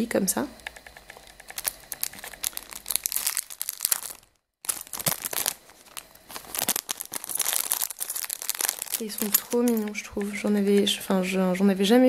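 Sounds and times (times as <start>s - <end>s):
plastic bags crinkling: 1.4s - 11.4s.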